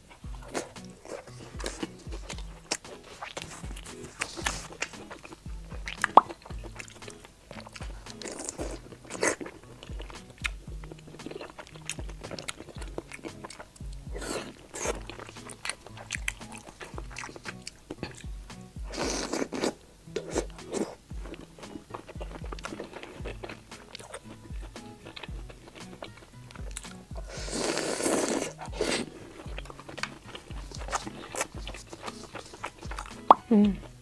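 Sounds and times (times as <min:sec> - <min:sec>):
background music: 0:00.0 - 0:34.0
wet mouth clicks: 0:00.0 - 0:34.0
woman biting and chewing: 0:00.0 - 0:34.0.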